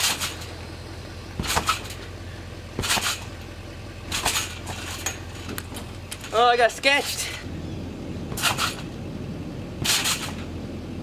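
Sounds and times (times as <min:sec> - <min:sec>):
trampoline springs creaking: 0:00.0 - 0:11.0.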